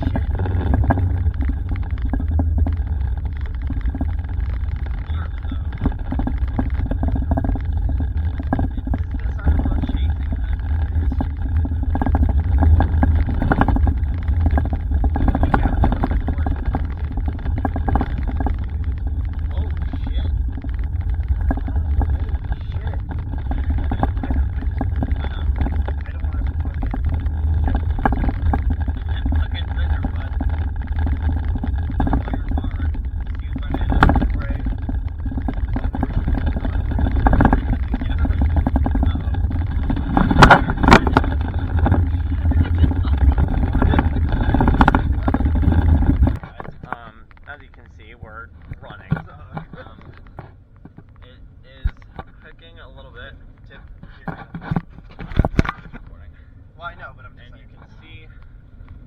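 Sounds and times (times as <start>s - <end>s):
small clicks and rattles: 0.0s - 59.0s
vehicle road rumble: 0.0s - 59.0s.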